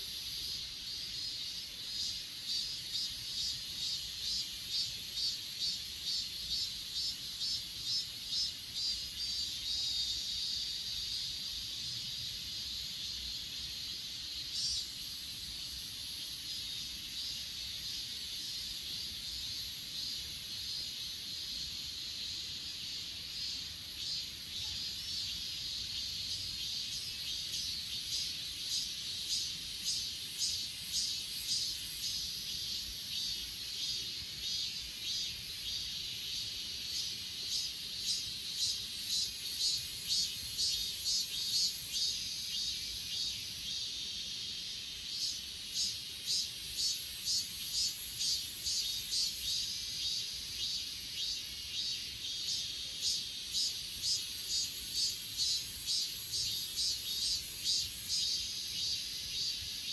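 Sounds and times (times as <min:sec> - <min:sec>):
crickets trilling: 0:00.0 - 0:59.9
insect pulsed chirps: 0:00.0 - 0:59.9.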